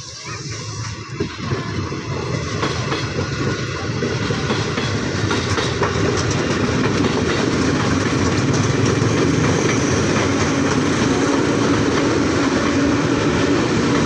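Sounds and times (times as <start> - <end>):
train wheels rumbling on rails: 0.0 - 14.0
wheels clicking over track: 1.1 - 14.0.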